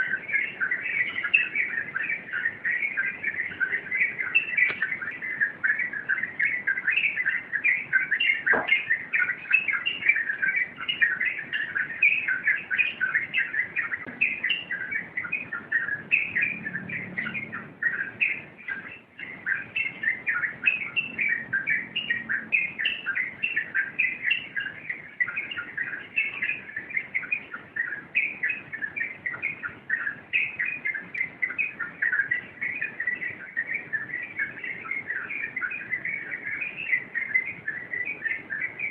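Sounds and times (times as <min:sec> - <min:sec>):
bulbul singing chattering notes: 0:00.0 - 0:38.9.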